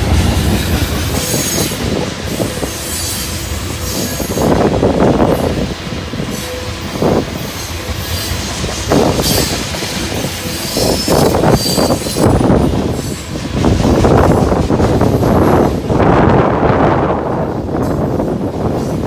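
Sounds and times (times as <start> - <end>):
freight train rolling past: 0.0 - 19.0
wheels squealing on rails: 0.0 - 19.0.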